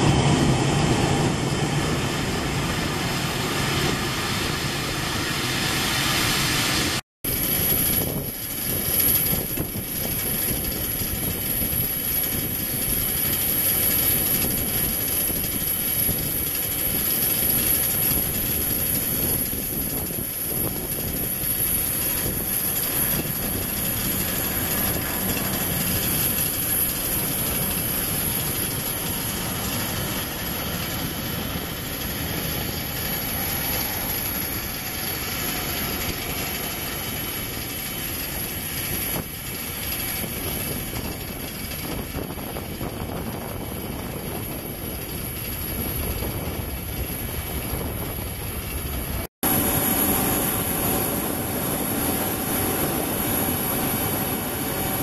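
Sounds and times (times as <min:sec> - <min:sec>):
jet engine rushing: 0:00.0 - 0:55.0
jet engine whine: 0:00.0 - 0:55.0.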